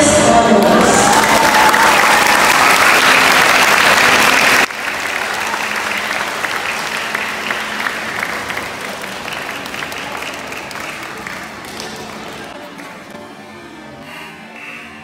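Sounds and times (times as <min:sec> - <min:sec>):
audience applauding: 0:00.6 - 0:13.2.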